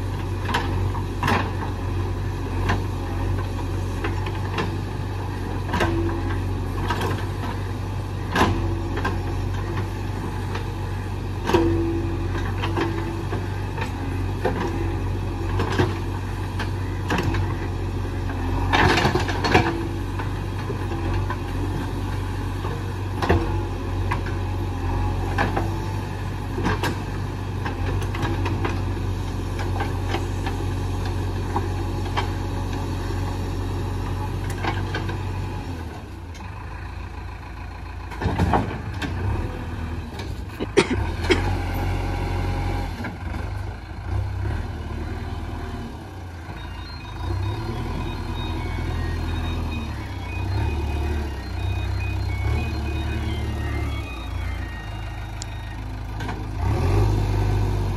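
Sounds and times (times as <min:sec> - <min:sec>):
diesel engine running under load: 0:00.0 - 0:57.9.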